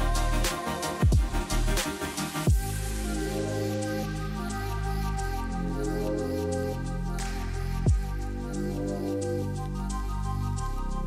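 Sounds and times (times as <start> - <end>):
drum beat with deep bass: 0.0 - 11.0.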